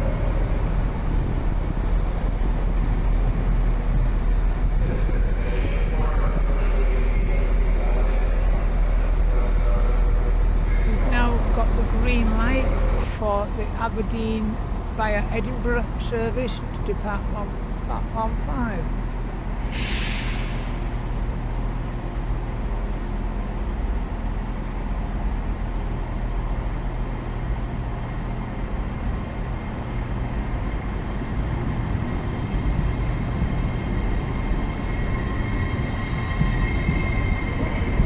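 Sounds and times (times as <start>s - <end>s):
train rumble: 0.0s - 38.0s
train whine: 0.0s - 38.0s.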